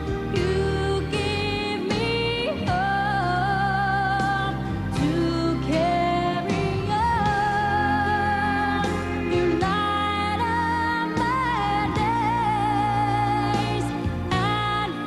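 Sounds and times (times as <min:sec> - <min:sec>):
music with long held notes: 0:00.0 - 0:15.0
steady bass: 0:00.0 - 0:15.0.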